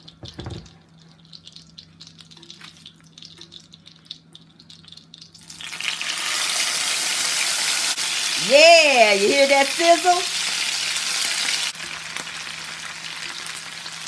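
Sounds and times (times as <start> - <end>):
fat crackling in skillet: 0.0 - 14.0
loud sizzle of batter: 0.0 - 14.0.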